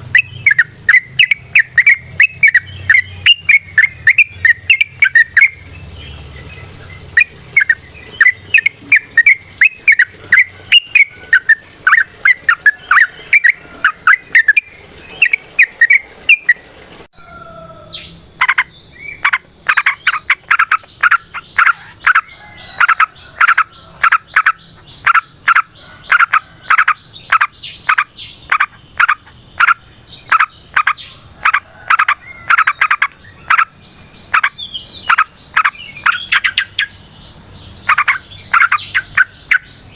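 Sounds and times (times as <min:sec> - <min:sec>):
bird singing chirping notes: 0:00.0 - 0:16.6, 0:17.2 - 0:39.9.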